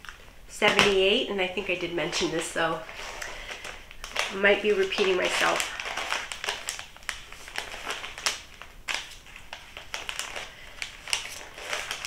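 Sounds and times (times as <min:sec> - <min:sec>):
packaging crinkling and rustling: 0:01.7 - 0:12.0.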